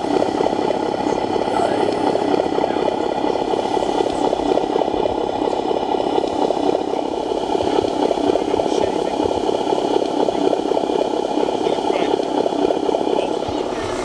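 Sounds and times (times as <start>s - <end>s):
diesel engine idling through small speaker: 0.0s - 14.0s.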